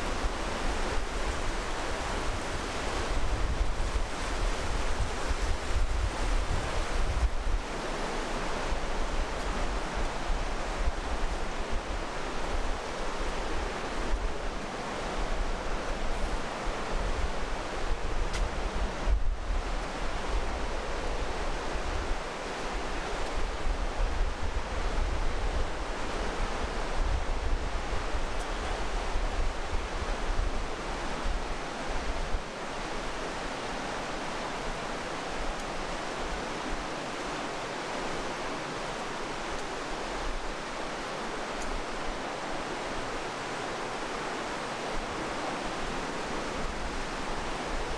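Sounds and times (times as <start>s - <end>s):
river rushing: 0.0s - 47.9s
wind rumble on microphone: 0.0s - 47.9s.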